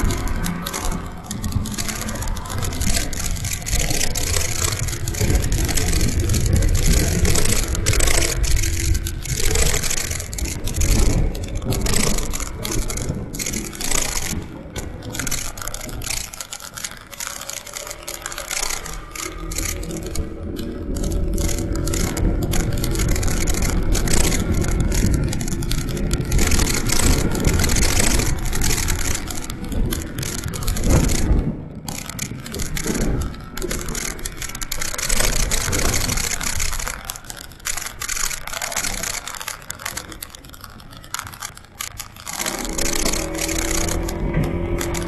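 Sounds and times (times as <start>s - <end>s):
motorcycle engine: 0.0s - 45.0s.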